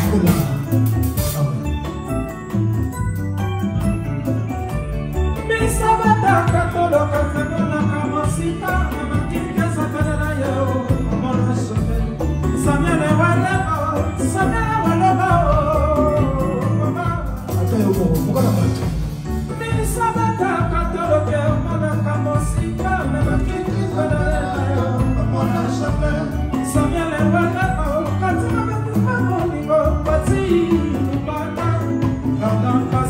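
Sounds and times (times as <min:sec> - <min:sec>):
live rumba band: 0:00.0 - 0:33.0
man singing into a microphone: 0:05.4 - 0:18.9, 0:19.5 - 0:33.0.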